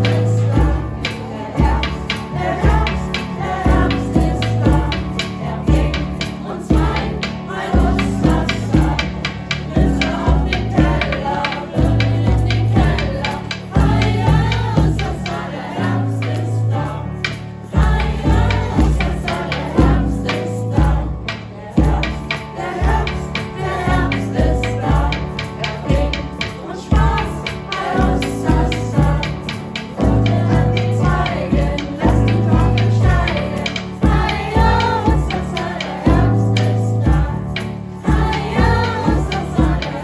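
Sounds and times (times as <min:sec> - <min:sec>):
group of voices singing: 0:00.0 - 0:40.0.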